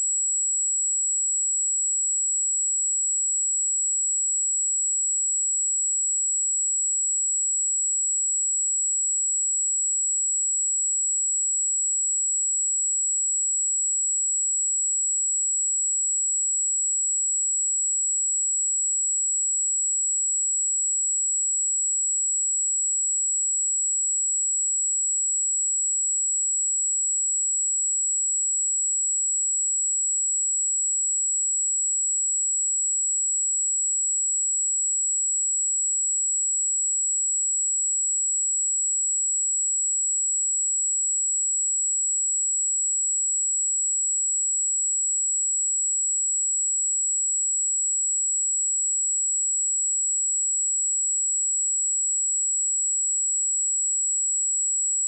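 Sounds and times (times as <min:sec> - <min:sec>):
high-pitched sine-wave test tone: 0:00.0 - 0:55.0.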